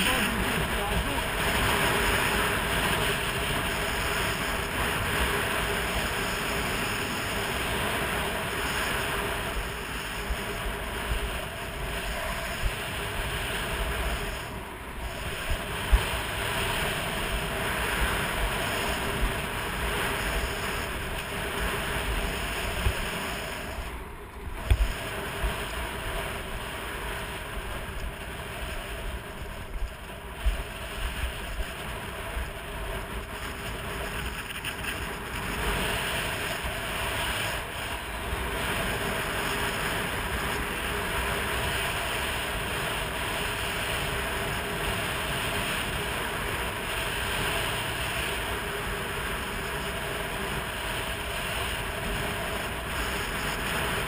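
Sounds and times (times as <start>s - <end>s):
skis scraping on snow: 0.0s - 54.0s
wind buffeting microphone: 0.0s - 54.0s.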